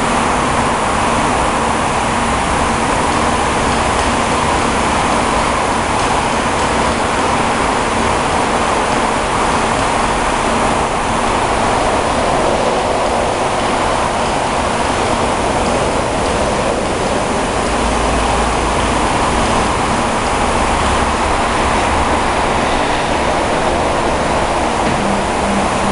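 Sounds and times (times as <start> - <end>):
milling machine whirring hiss: 0.0 - 25.9.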